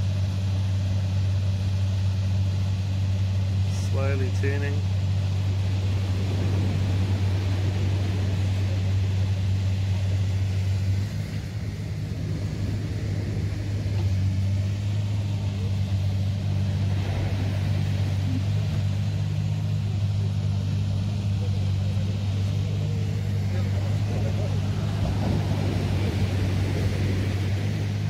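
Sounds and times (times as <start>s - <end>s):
excavator diesel engine running: 0.0s - 28.0s
breaking surf: 3.5s - 28.0s.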